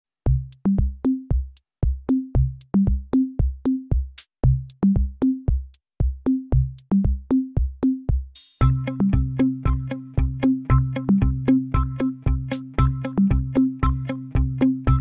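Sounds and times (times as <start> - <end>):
drum machine electronic beat: 0.3 - 15.0.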